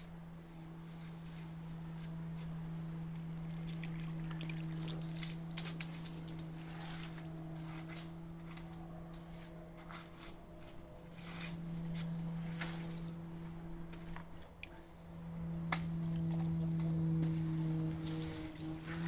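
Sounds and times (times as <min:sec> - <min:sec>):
concrete vibrator humming: 0:00.0 - 0:19.0.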